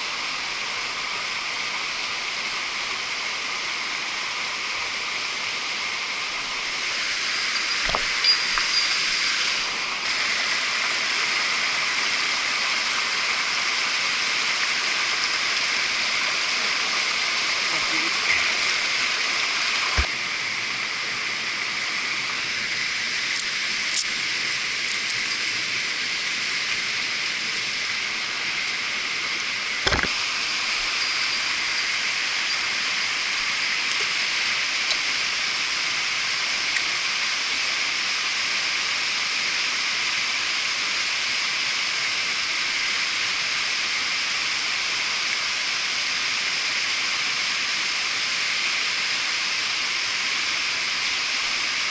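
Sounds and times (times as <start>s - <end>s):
mountain stream rushing: 0.0s - 51.9s.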